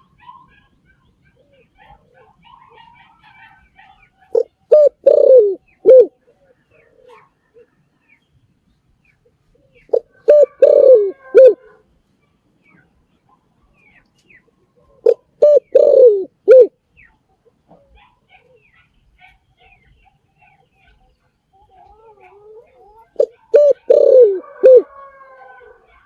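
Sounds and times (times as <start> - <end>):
dove cooing: 0.0 - 7.8, 9.3 - 11.8, 14.6 - 16.8, 17.4 - 26.0
small birds chirping: 0.0 - 11.2, 11.9 - 24.9.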